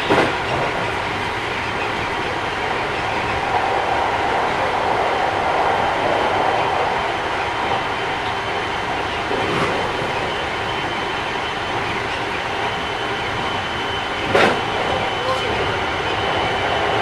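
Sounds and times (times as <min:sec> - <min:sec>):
train wheels and motors rumbling: 0:00.0 - 0:17.0.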